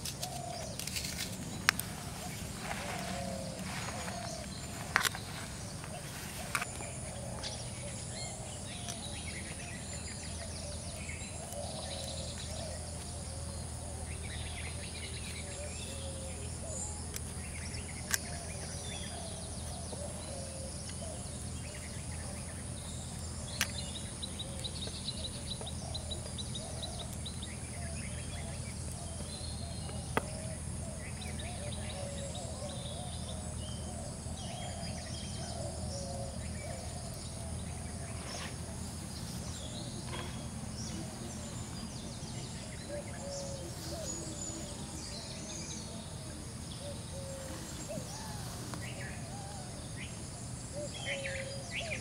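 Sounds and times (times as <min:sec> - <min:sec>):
birds chirping and calling: 0:00.0 - 0:52.0
low outdoor hum: 0:00.0 - 0:52.0.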